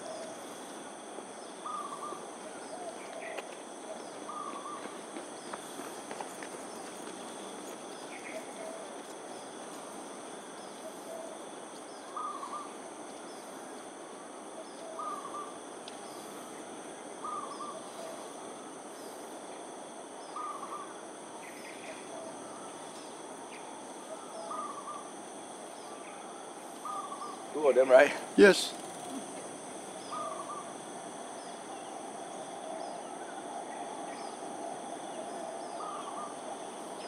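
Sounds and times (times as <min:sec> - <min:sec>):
high insect drone: 0:00.0 - 0:37.0
steady outdoor hiss: 0:00.0 - 0:37.0.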